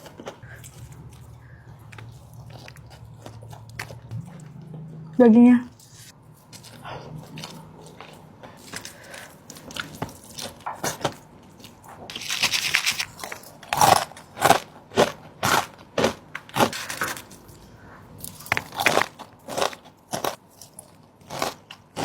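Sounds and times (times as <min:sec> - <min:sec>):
chewing crunchy food: 0:00.0 - 0:05.1, 0:05.8 - 0:22.0.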